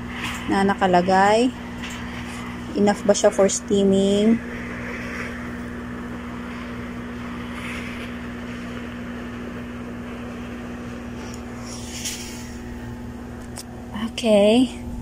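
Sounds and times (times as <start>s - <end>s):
steam hissing: 0.0s - 13.6s
garment steamer pump humming: 0.0s - 15.0s.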